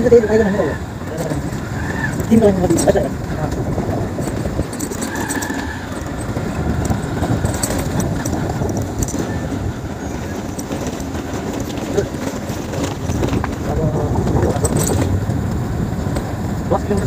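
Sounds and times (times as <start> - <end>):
light rattles: 0.0 - 17.0
vehicle engine: 0.0 - 17.0.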